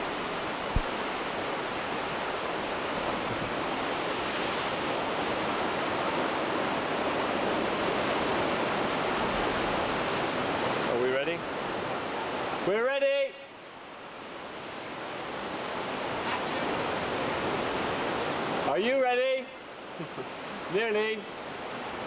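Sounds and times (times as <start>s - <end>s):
sea surf rushing: 0.0s - 22.0s.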